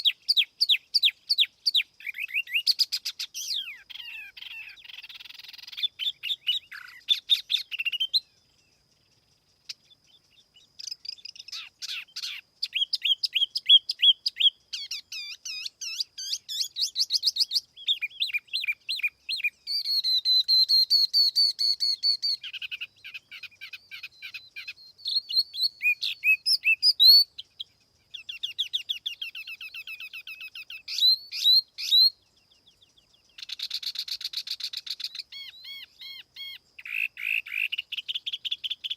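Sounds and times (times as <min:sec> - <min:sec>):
songbird trilling and whistling: 0:00.0 - 0:38.9.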